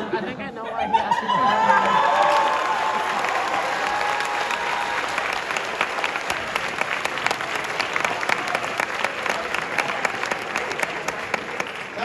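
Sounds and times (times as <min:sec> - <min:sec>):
audience applauding and cheering: 0:01.2 - 0:12.0.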